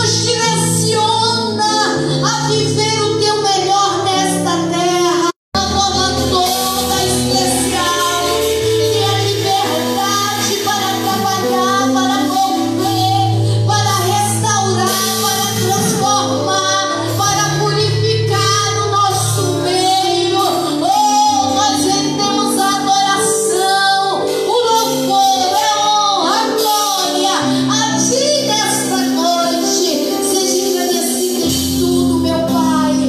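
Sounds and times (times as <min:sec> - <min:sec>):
band playing: 0:04.2 - 0:33.0.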